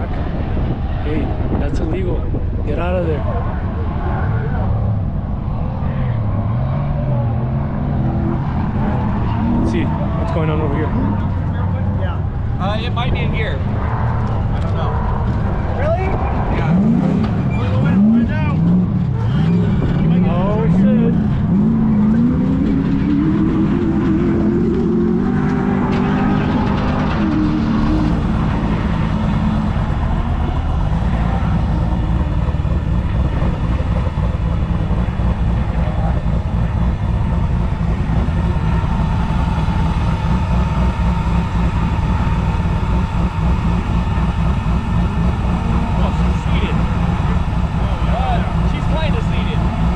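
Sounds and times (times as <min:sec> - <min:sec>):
vehicle engine revving: 0:00.0 - 0:49.9.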